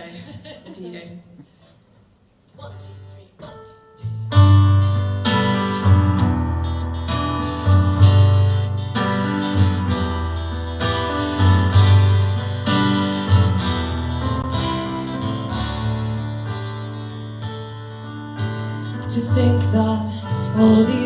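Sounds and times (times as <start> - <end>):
acoustic guitar strumming: 3.4 - 21.0.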